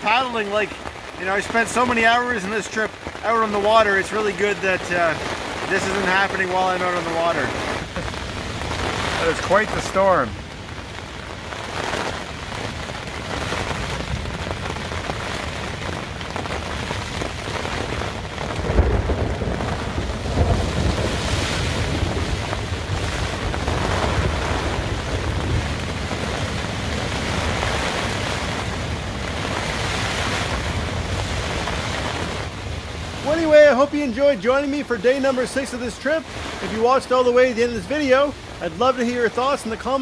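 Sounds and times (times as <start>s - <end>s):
wind shaking tent fabric: 0.0s - 34.6s, 35.2s - 40.0s
heavy rain on tent fabric: 0.0s - 40.0s.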